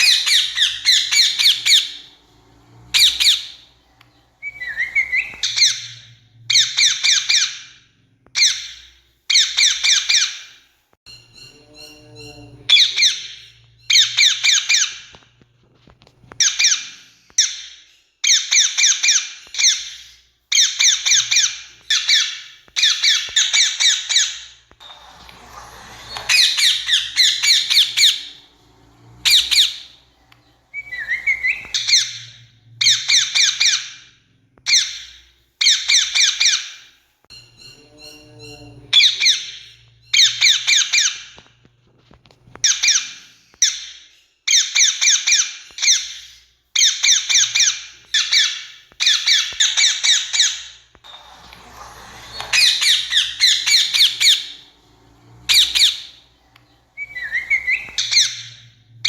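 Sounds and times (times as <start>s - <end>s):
parakeets screeching: 0.0s - 15.4s, 16.3s - 41.6s, 42.2s - 59.0s.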